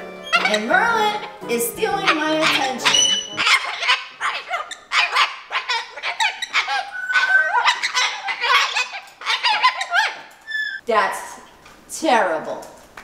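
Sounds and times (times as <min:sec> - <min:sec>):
cockatoo calling harshly: 0:00.3 - 0:10.8.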